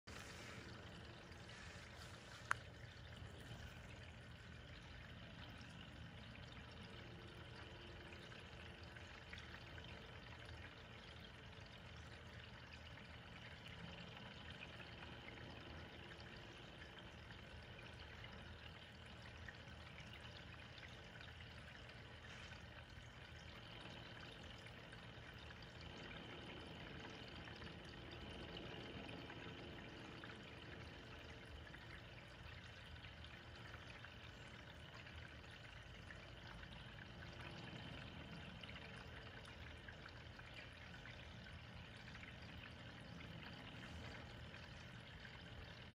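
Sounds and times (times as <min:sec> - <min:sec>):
trickle of running water: 0:00.0 - 0:45.9.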